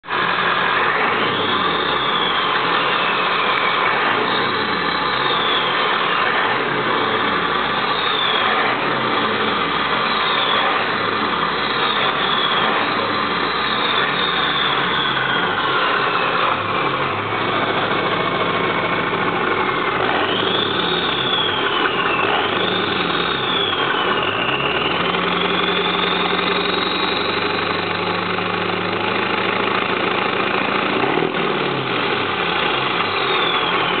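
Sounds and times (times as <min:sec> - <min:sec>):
turbo whistle: 0:00.0 - 0:28.2, 0:32.0 - 0:34.0
diesel engine revving: 0:00.0 - 0:34.0.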